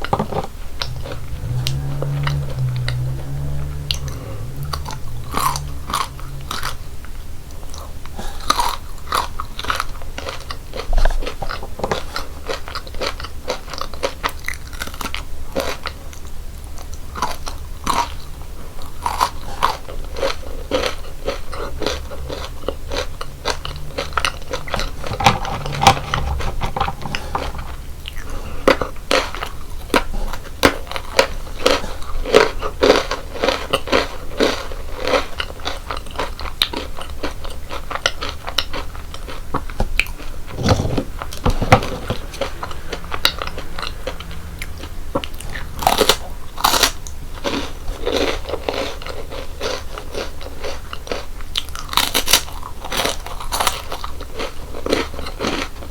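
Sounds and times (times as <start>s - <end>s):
crunchy biscuits being chewed: 0.0s - 55.9s.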